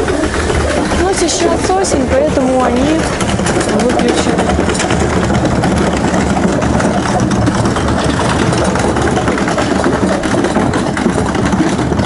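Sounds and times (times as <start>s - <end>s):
wheels rolling over paving tiles: 0.0s - 12.0s.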